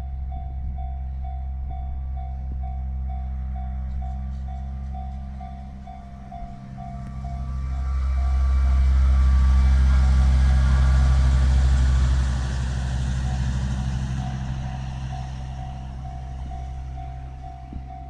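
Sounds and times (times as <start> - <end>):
crossing alarm dinging: 0.0 - 18.0
rail motor car engine drone: 0.0 - 18.0.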